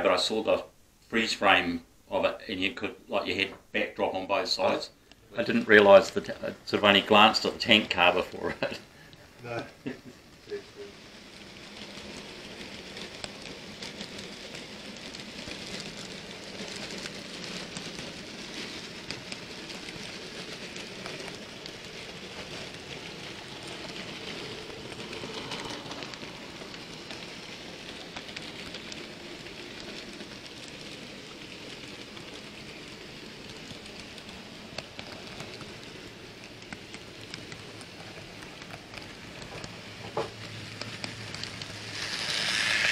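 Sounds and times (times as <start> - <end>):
model train wheels rattling on rails: 2.6 - 42.9.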